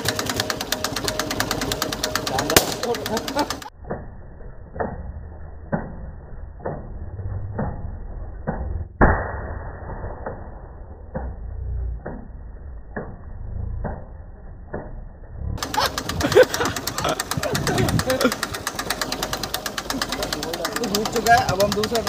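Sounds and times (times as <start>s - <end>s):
tractor engine rumble: 0.0s - 9.3s, 10.2s - 22.0s.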